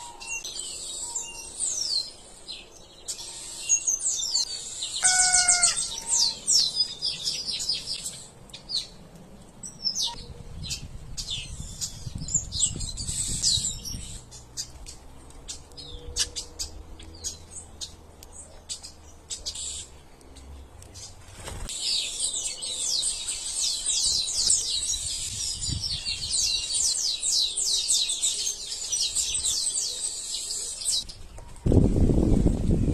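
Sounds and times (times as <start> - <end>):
songbirds chirping: 0.0 - 31.9.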